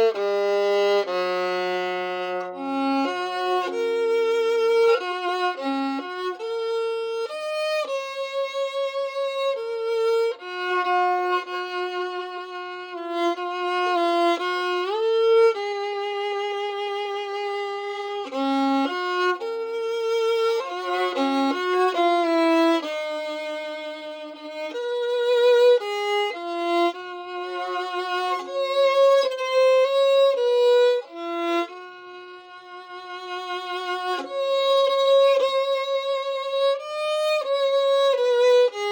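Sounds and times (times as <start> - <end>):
solo violin melody: 0.0 - 38.9.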